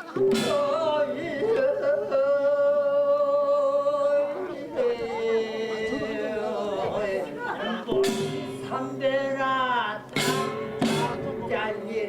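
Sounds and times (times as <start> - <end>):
person singing long notes: 0.0 - 12.0.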